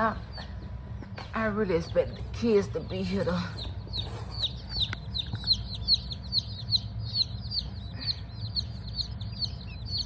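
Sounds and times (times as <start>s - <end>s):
chicks peeping: 0.0s - 10.0s
steady low hum: 0.0s - 10.0s.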